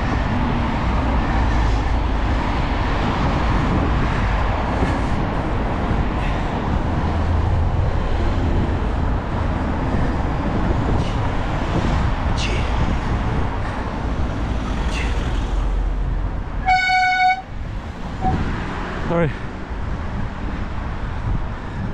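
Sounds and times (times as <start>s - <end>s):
road traffic passing: 0.0s - 21.9s.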